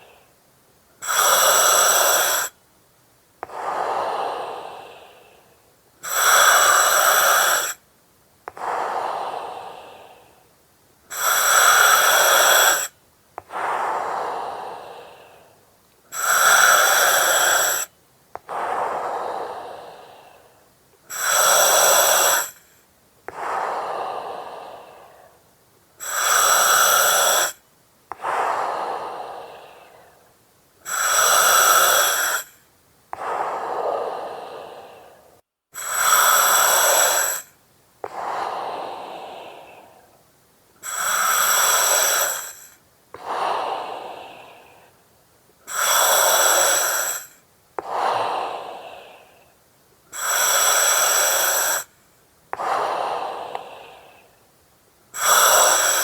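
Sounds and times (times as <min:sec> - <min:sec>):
breathing through oxygen mask: 0:01.0 - 0:02.6, 0:03.4 - 0:07.8, 0:08.5 - 0:10.5, 0:11.1 - 0:25.4, 0:26.0 - 0:40.2, 0:40.8 - 0:45.0, 0:45.6 - 0:49.5, 0:50.1 - 0:54.4, 0:55.2 - 0:56.0.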